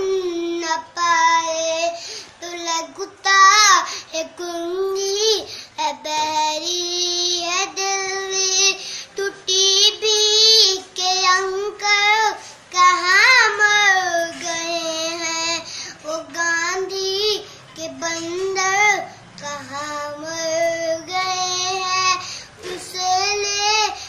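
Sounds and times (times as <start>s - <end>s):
boy singing unaccompanied: 0.0s - 24.0s.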